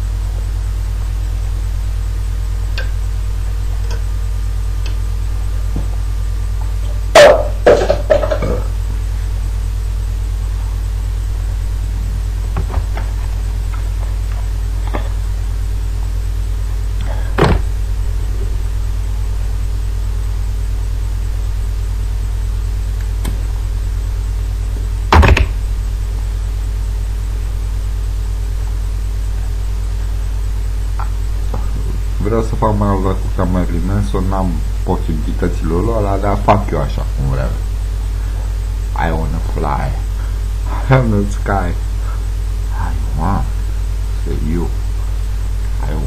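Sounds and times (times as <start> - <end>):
low electrical hum: 0.0 - 46.0.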